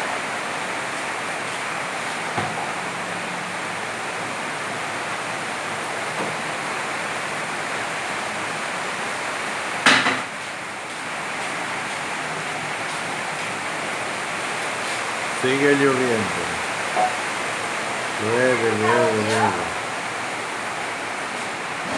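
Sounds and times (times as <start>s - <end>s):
heavy rain falling: 0.0s - 9.8s, 10.5s - 21.9s.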